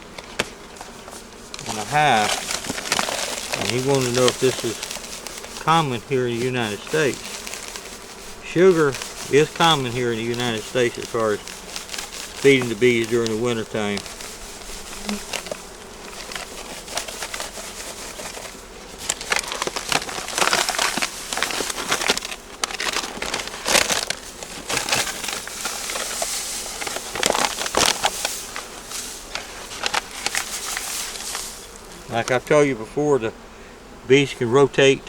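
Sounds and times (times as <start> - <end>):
crinkling and rustling: 0.0 - 32.6.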